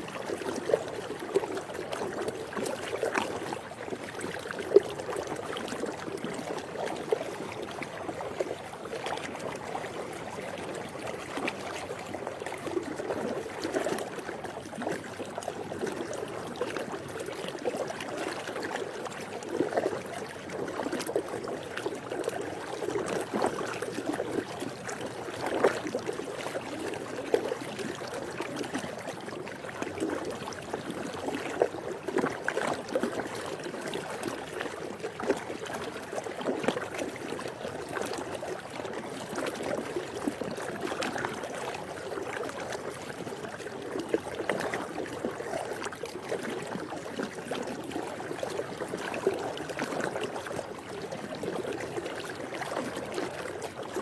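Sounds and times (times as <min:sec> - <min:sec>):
pool water lapping: 0:00.0 - 0:54.0
small water splashes: 0:00.0 - 0:54.0.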